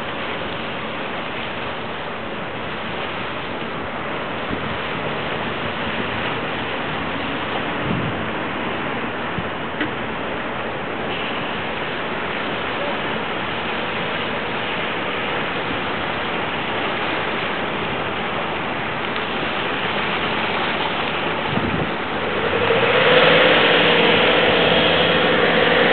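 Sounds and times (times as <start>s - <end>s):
outboard engine running: 0.0s - 25.9s
water wash: 0.0s - 25.9s.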